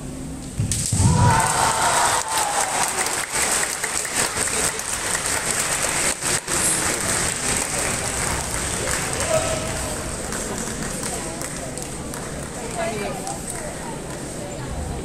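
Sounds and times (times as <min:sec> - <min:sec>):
spectators applauding: 0:01.0 - 0:13.8.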